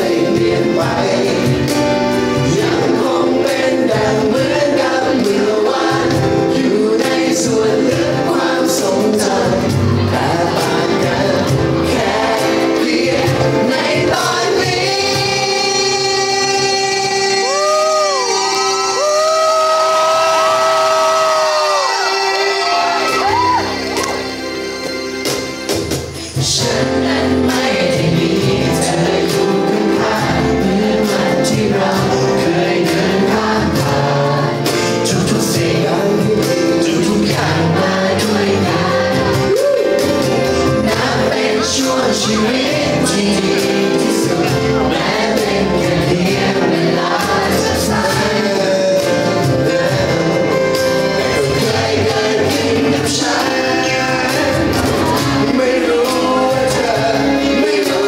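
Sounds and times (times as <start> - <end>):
man singing into microphone: 0.0 - 23.3, 26.4 - 58.0.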